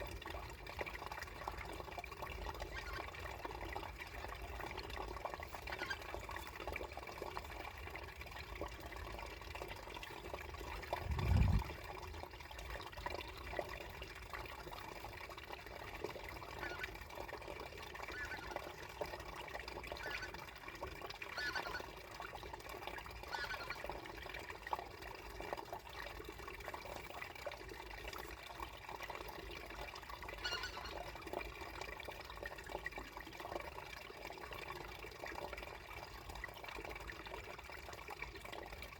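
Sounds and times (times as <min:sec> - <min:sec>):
water trickling beneath ice: 0:00.0 - 0:38.9.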